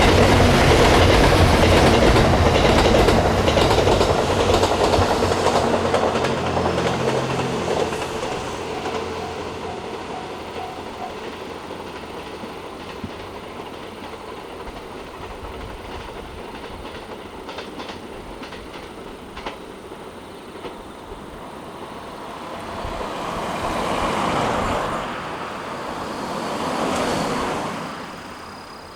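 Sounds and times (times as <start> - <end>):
train running on track: 0.0 - 28.9
wheels clicking over rail joints: 0.0 - 28.9.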